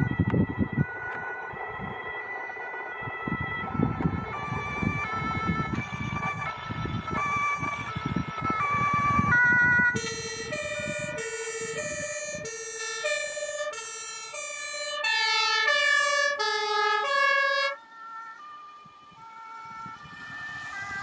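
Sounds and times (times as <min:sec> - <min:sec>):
car road noise: 0:00.0 - 0:21.0
two-tone electronic siren: 0:00.0 - 0:21.0.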